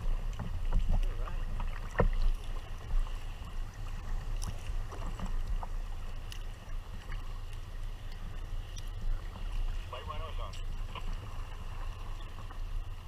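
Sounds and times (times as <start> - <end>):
paddle strokes splashing water: 0.0 - 13.0
water lapping against hull: 0.0 - 13.0.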